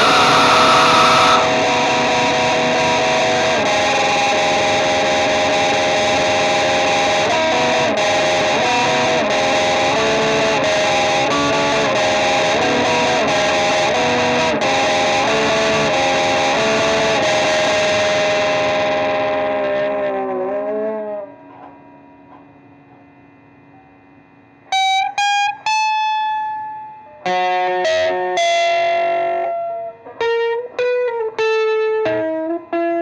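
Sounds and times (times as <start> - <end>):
distorted electric guitar riff: 0.0 - 22.7, 24.6 - 33.0.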